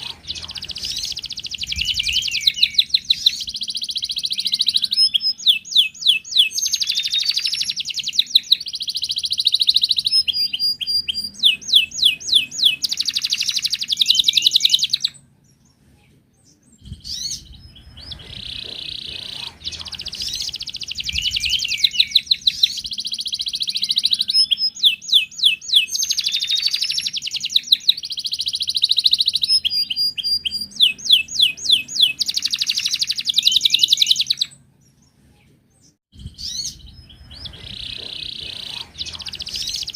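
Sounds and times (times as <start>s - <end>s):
canary singing trills: 0.0s - 35.2s, 35.8s - 39.9s.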